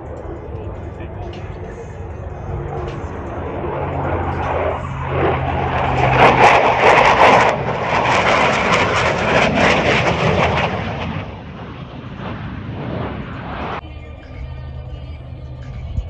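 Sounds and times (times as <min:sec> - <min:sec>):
jet roar flying past: 0:00.0 - 0:13.8.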